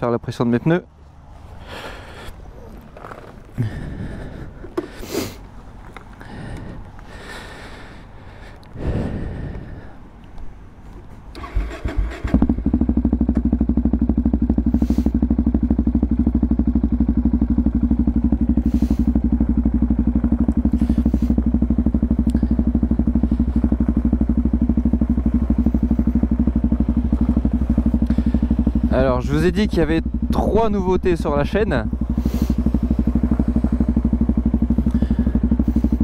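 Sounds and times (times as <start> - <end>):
motorcycle engine starting and running: 0.9 - 9.9, 10.9 - 36.0.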